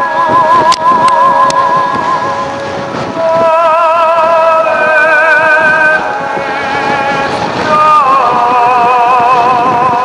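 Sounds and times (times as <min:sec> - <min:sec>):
sustained wavering music notes: 0:00.0 - 0:09.7
rough noise bed: 0:00.0 - 0:10.0.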